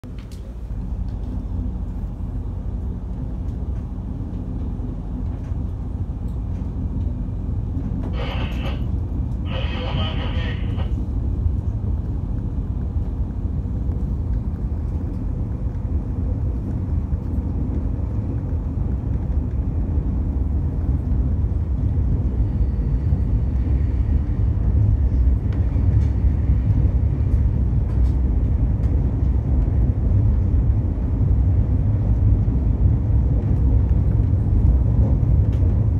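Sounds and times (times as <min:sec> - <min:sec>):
freight train rumbling: 0:00.0 - 0:35.9.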